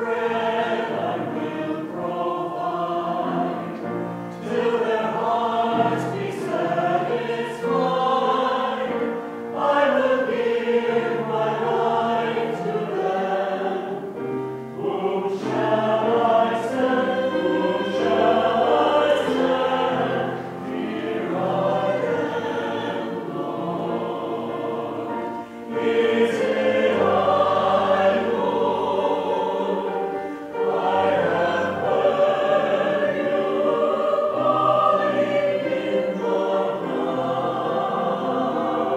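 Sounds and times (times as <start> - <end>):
mixed choir singing held notes: 0.0 - 38.9.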